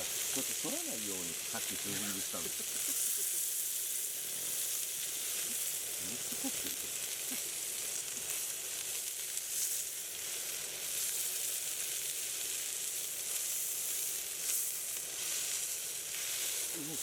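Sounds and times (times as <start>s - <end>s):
meat sizzling: 0.0s - 17.0s.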